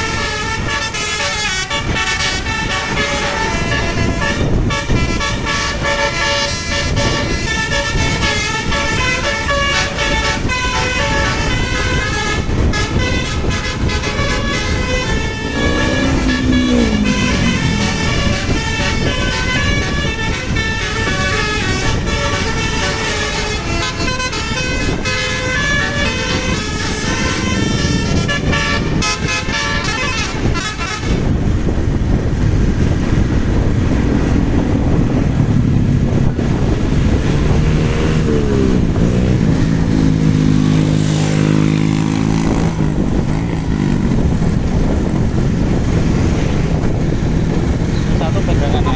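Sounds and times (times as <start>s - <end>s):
musical bus horn melody: 0.0s - 32.0s, 36.2s - 45.1s.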